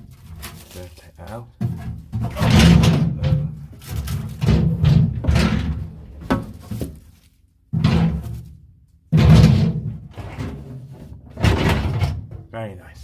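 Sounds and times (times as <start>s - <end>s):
knocking and rustling of parts: 0.0s - 12.6s.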